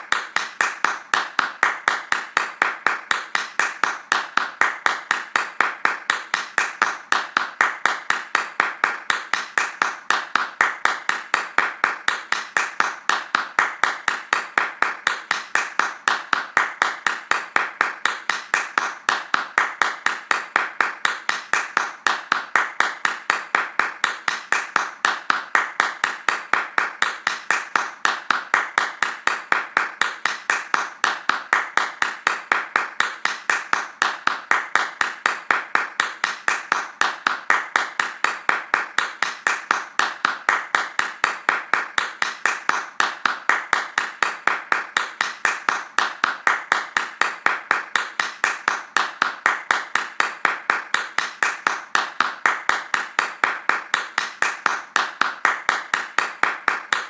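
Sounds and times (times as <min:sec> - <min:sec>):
fast hand claps: 0:00.0 - 0:57.0.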